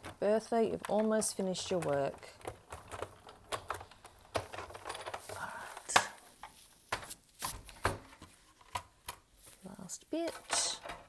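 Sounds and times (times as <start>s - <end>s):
plastic plates clacking and knocking: 0.0s - 9.3s.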